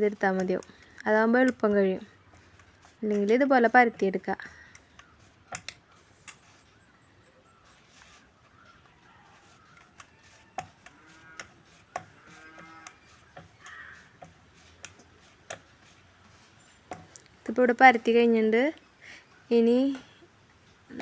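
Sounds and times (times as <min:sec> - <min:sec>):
rolling pin rolling dough: 0:00.0 - 0:18.6.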